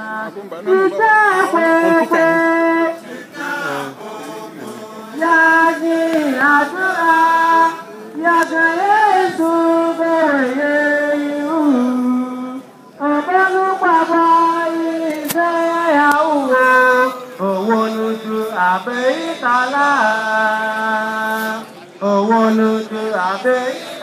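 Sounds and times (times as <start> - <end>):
group singing unaccompanied: 0.0 - 24.0.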